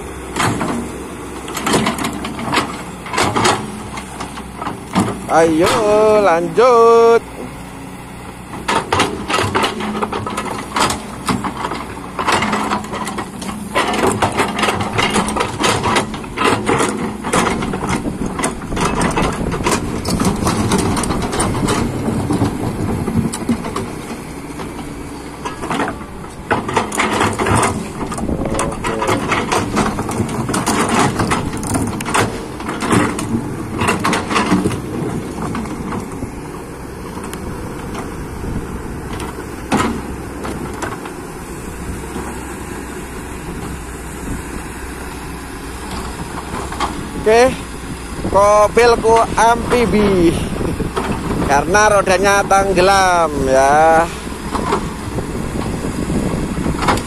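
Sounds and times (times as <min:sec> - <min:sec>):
clanks knocks and scraping: 0:00.0 - 0:07.6, 0:08.5 - 0:44.0, 0:45.0 - 0:57.0
excavator diesel engine drone: 0:00.0 - 0:57.0.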